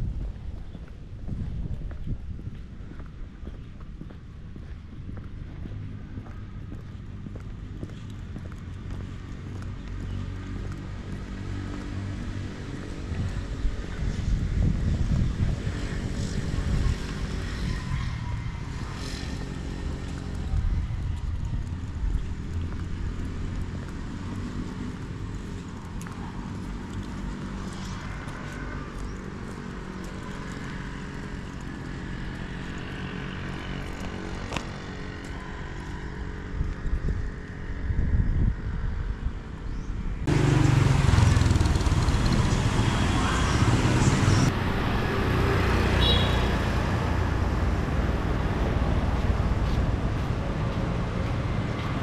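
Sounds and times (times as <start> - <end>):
street traffic engines: 0.0 - 52.0.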